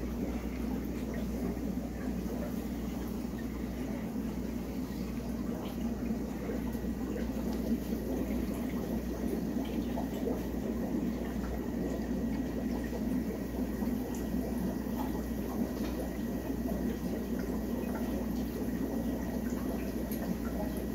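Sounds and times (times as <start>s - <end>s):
aquarium water bubbling: 0.0s - 20.9s.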